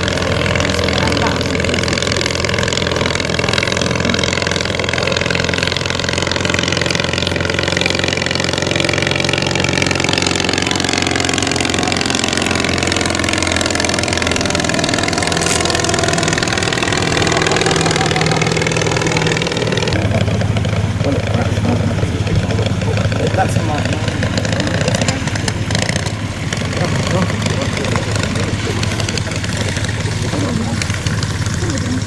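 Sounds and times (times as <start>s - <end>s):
small aircraft engine running: 0.0s - 32.0s.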